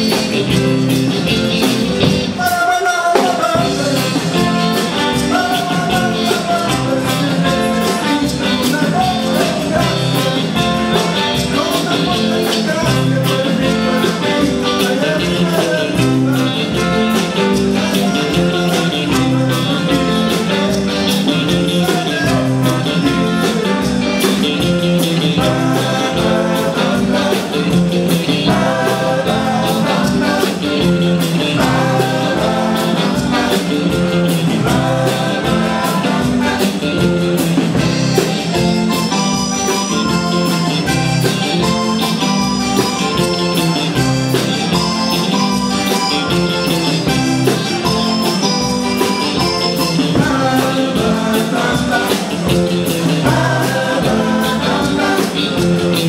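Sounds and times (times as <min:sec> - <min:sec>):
electric guitar: 0:00.0 - 0:56.0
keyboard: 0:00.0 - 0:56.0
steady drum beat: 0:00.0 - 0:56.0
person singing: 0:02.3 - 0:37.2, 0:41.6 - 0:56.0.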